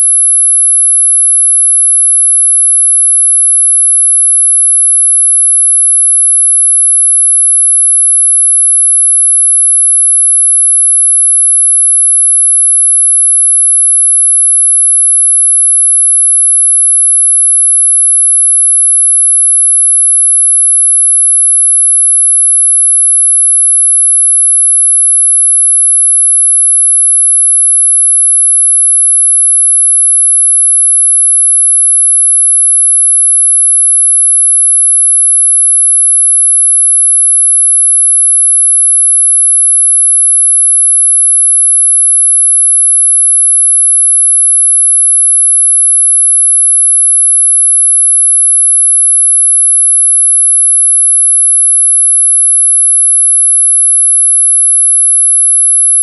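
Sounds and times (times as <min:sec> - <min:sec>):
high-pitched sine tone: 0:00.0 - 0:56.0.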